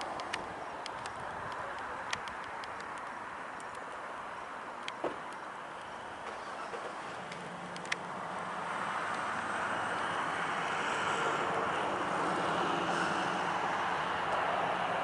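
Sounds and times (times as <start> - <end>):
engine noise: 0.0 - 15.0.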